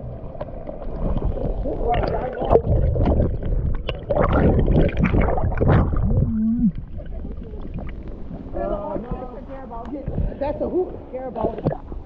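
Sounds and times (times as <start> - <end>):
low rumble: 0.0 - 12.0
water splashing and sloshing: 0.0 - 12.0.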